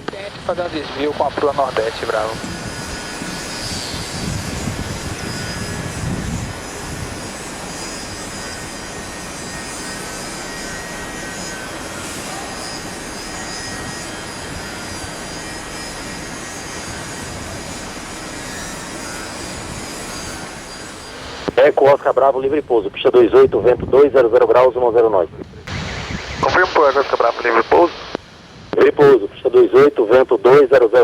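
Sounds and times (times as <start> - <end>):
jet airliner engines running: 0.0 - 31.0.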